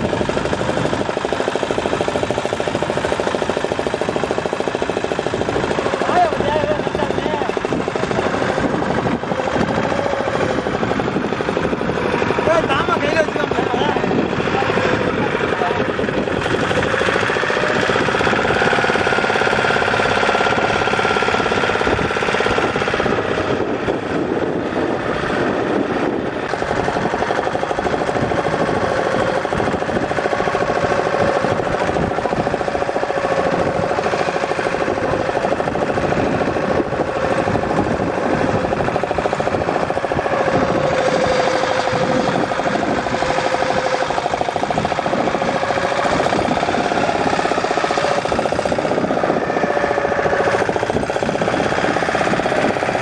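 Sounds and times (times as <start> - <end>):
boat engine chugging: 0.0 - 53.0.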